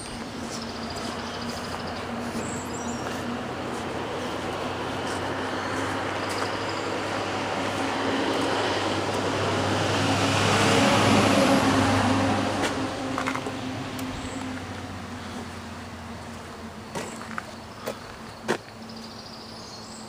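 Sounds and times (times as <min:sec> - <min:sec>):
vehicle passing by: 0:00.0 - 0:18.4.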